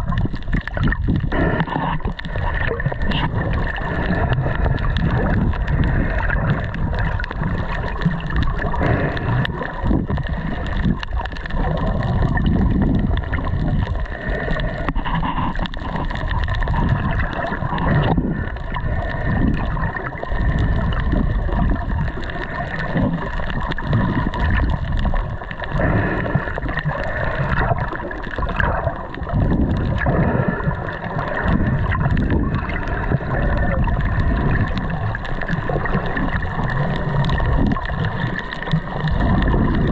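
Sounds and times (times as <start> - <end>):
water splashing and gurgling: 0.0 - 39.9.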